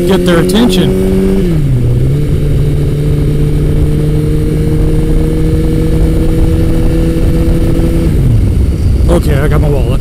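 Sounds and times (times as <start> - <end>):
motorcycle engine cruising: 0.0 - 10.0
wind rush on microphone: 0.0 - 10.0.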